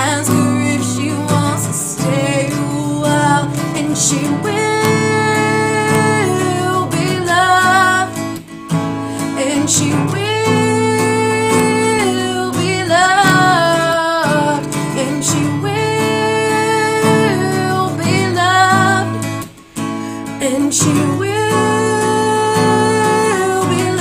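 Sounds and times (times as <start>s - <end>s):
woman singing long notes: 0.0s - 8.2s, 9.4s - 19.2s, 20.4s - 24.0s
acoustic guitar strumming: 0.0s - 24.0s.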